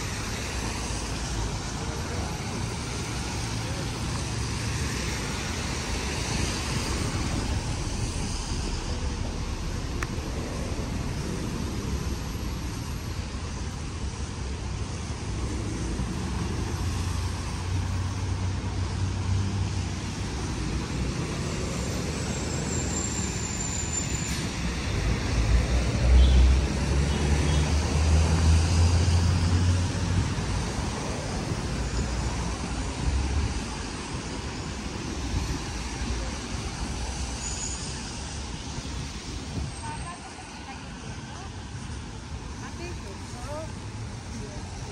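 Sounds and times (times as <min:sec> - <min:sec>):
traffic hiss on wet road: 0:00.0 - 0:44.9
vehicles passing rumble: 0:00.0 - 0:44.9.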